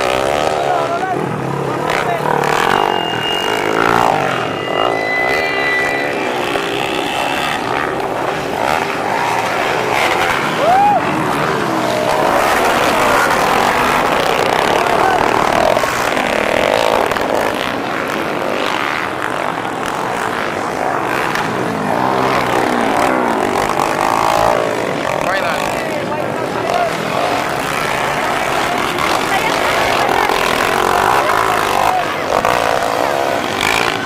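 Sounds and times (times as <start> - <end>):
motorcycle engines revving hard: 0.0 - 34.0.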